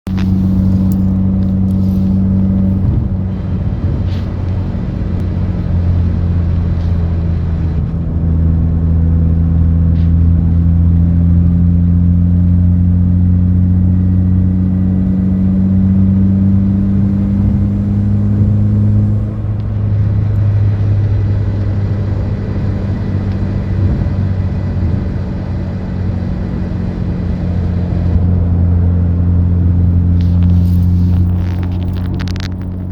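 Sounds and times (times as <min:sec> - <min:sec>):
car low buzzing drone: 0:00.0 - 0:32.9.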